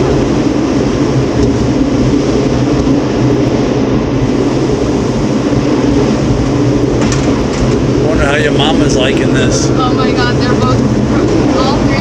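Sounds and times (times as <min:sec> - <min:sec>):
low hum: 0:00.0 - 0:12.0
tram capsule mechanical running: 0:00.0 - 0:12.0.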